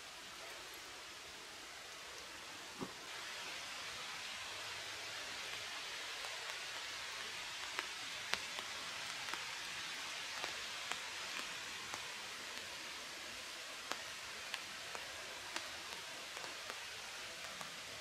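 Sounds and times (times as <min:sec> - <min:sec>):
steady hiss: 0:00.0 - 0:18.0
wood fire crackling and popping: 0:02.2 - 0:18.0.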